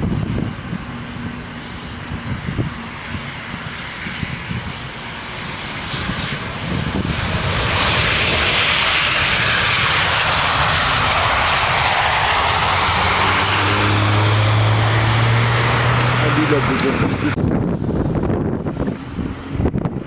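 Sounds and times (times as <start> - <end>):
jet airliner engines rushing: 0.0 - 20.0.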